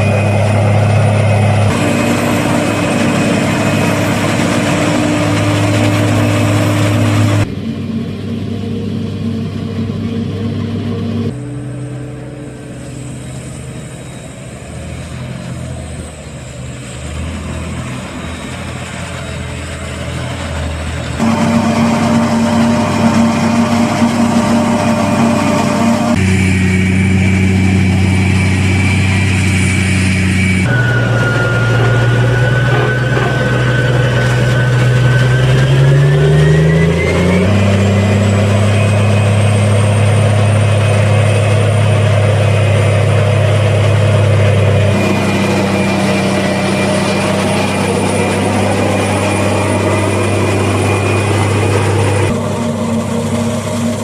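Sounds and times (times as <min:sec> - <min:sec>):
harvester and tractor engines: 0:00.0 - 0:54.0.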